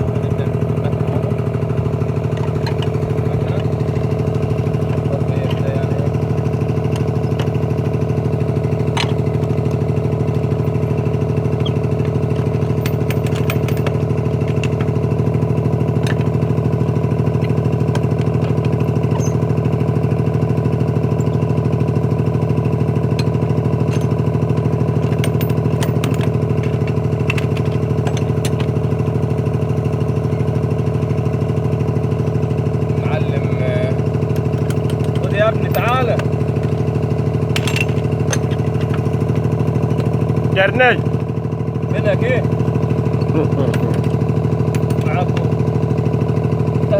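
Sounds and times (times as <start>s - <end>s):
engine humming steadily: 0.0s - 46.9s.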